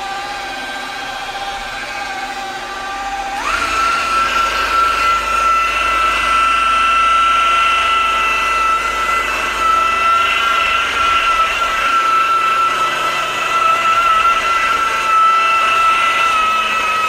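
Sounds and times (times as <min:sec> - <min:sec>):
power tool motor whining: 0:00.0 - 0:17.0.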